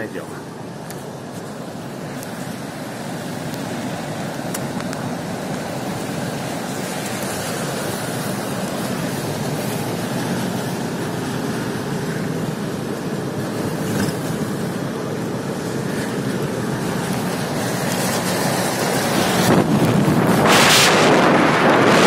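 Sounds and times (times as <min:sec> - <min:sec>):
road noise inside moving car: 0:00.0 - 0:22.0
tyres hissing on wet street: 0:00.0 - 0:22.0.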